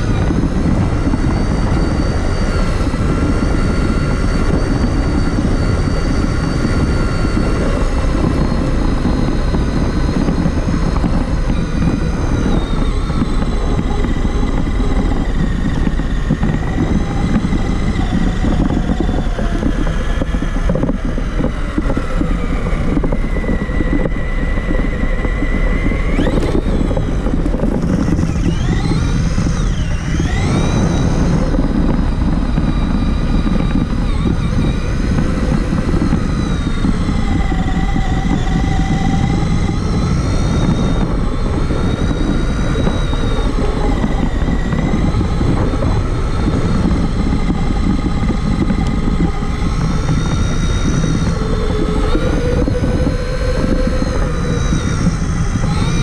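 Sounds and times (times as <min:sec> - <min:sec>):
electric motor whine: 0:00.0 - 0:56.0
rumble of tyres on ground: 0:00.0 - 0:56.0.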